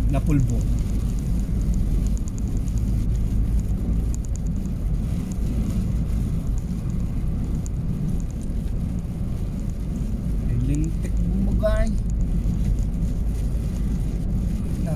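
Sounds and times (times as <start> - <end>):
road noise: 0.0 - 14.9
truck engine rumbling: 0.0 - 14.9.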